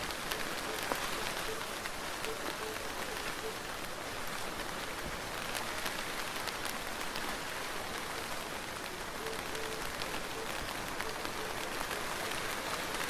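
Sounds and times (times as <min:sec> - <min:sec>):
raindrops ticking: 0:00.0 - 0:13.0
soft rain hiss: 0:00.0 - 0:13.0.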